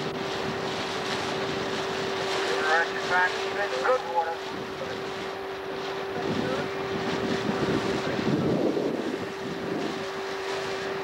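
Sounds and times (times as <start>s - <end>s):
boat motor humming: 0.0s - 11.0s
rushing water: 0.0s - 11.0s
wind rumble on microphone: 0.0s - 11.0s.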